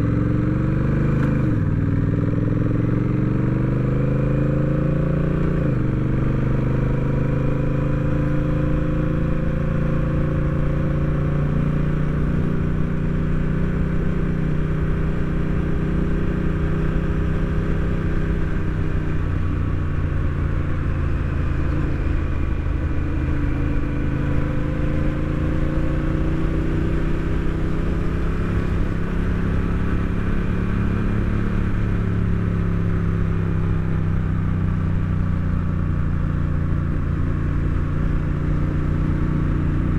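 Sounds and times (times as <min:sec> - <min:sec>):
motorcycle engine running: 0:00.0 - 0:39.9
road rumble: 0:00.0 - 0:39.9.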